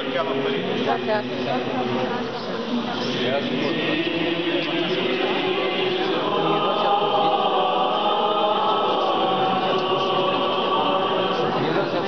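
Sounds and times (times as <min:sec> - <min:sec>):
church choir chanting: 0:00.0 - 0:12.0.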